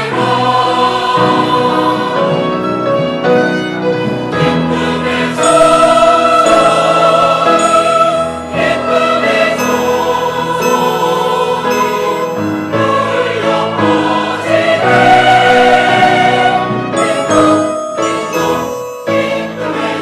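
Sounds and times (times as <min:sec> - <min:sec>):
choir singing held chords: 0:00.0 - 0:03.3, 0:04.2 - 0:20.0.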